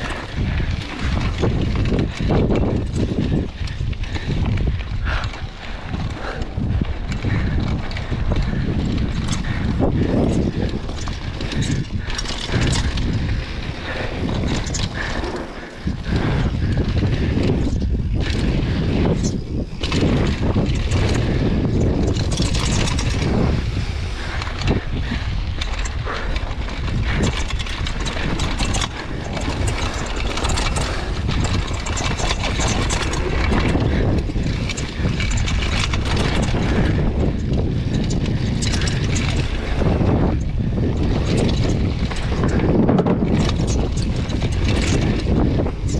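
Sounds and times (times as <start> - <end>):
bike rattling over bumps: 0.0 - 45.9
bike tyres on gravel trail: 0.0 - 45.9
wind rushing over microphone: 0.0 - 45.9.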